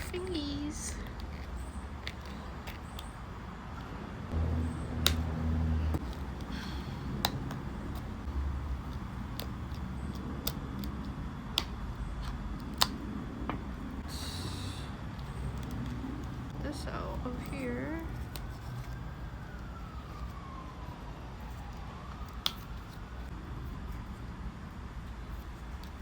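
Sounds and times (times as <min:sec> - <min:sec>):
low hum: 0:00.0 - 0:22.2.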